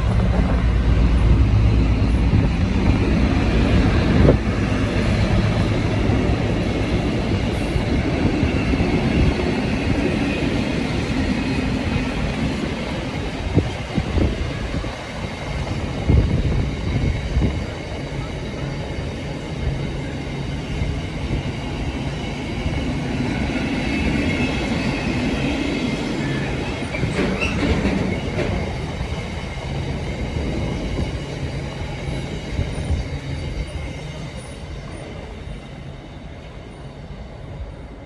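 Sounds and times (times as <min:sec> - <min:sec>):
freight train rolling past: 0:00.0 - 0:38.0
train wheel squeal: 0:00.0 - 0:38.0.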